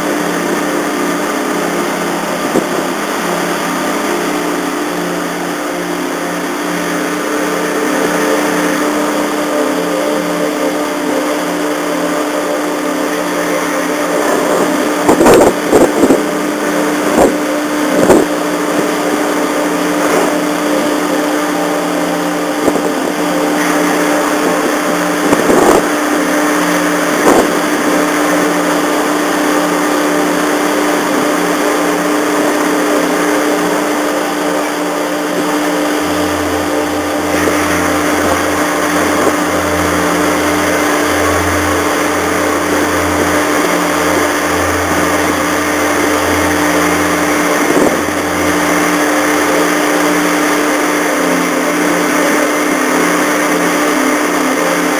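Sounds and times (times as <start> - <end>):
low pulsing drone: 0.0 - 54.9
ship engine machinery hum: 0.0 - 54.9.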